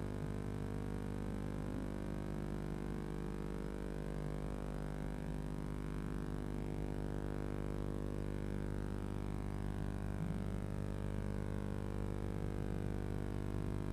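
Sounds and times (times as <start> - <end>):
electrical mains hum: 0.0 - 13.9.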